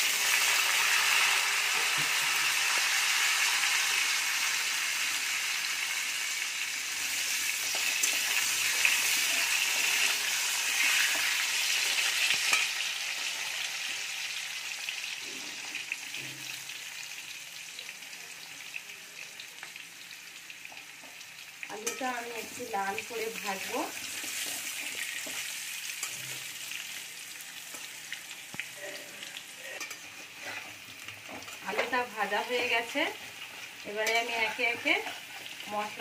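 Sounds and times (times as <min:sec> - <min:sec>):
potatoes sizzling in oil: 0:00.0 - 0:36.0.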